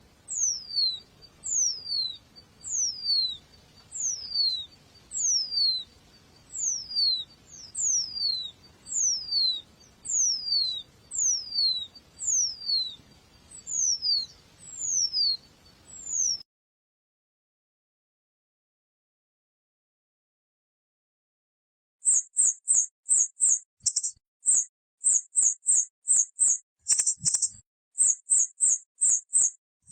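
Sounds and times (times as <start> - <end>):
bird whistling call: 0.0 - 16.4, 22.0 - 29.6.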